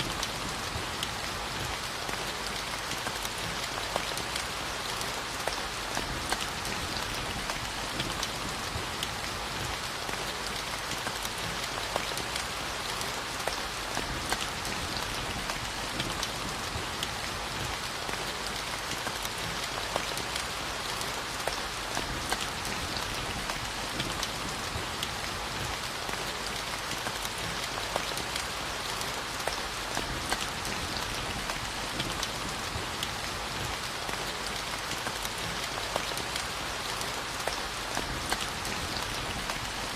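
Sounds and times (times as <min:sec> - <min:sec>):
raindrops pattering: 0:00.0 - 0:39.9.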